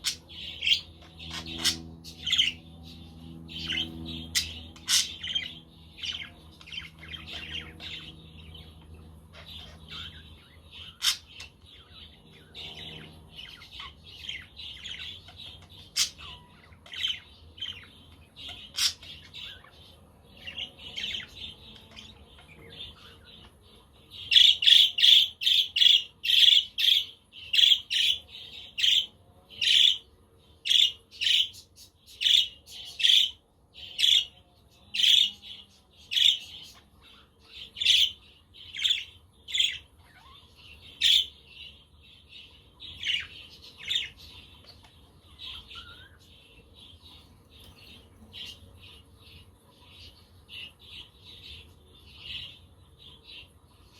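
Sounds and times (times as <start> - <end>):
budgerigars chirping and chattering: 0.0 - 53.9.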